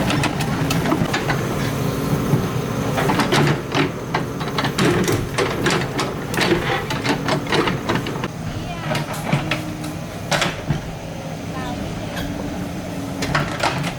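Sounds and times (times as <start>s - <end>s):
excavator engine under load: 0.0s - 13.9s.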